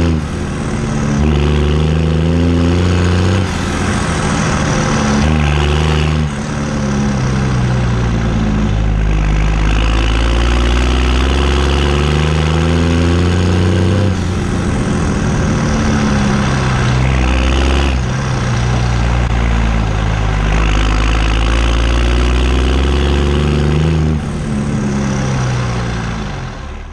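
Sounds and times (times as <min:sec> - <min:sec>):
tractor engine revving: 0:00.0 - 0:26.9.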